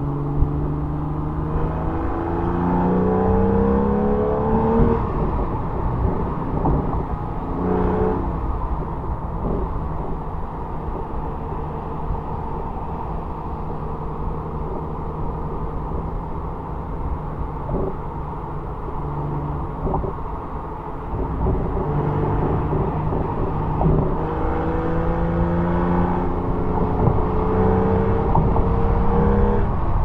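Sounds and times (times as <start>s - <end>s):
car exhaust accelerating: 0.0s - 30.0s
road and wind noise: 0.0s - 30.0s.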